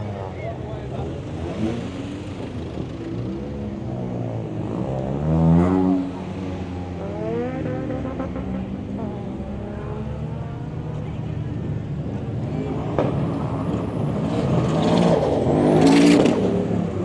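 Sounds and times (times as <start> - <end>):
cars driving past at low revs: 0.0 - 17.0.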